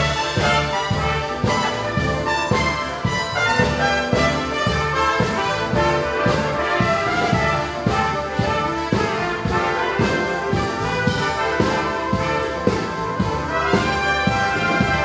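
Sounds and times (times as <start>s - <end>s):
brass holding chords: 0.0s - 15.0s
steady drum beat: 0.0s - 15.0s.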